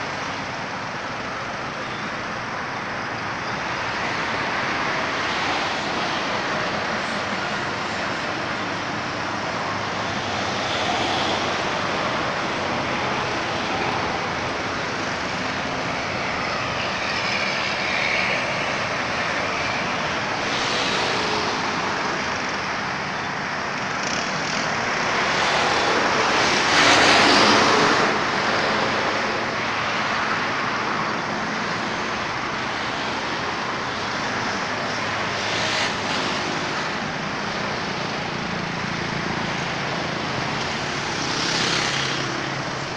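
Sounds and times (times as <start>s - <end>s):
road traffic roar: 0.0s - 42.9s
vehicles passing close by: 0.0s - 42.9s.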